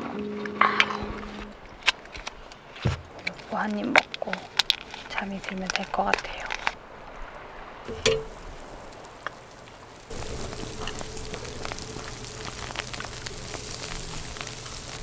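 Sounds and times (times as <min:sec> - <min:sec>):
campfire crackling and popping: 0:00.6 - 0:15.0.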